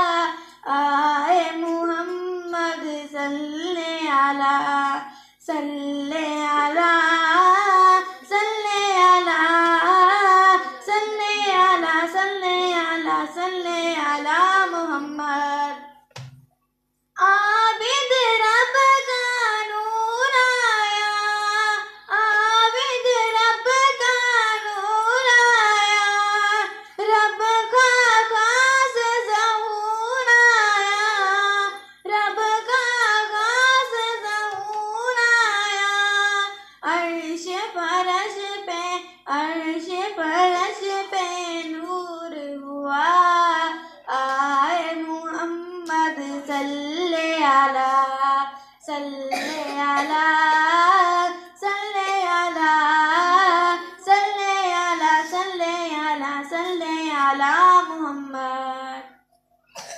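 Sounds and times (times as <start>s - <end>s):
girl singing unaccompanied chant: 0.0s - 16.2s, 17.2s - 59.2s.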